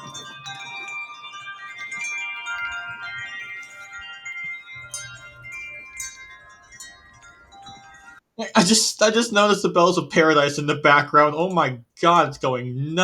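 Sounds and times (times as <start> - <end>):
wind chimes jangling: 0.0 - 10.6.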